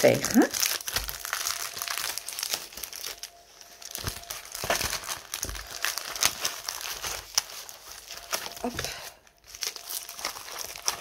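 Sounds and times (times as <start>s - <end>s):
plastic and paper crinkling: 0.0s - 11.0s.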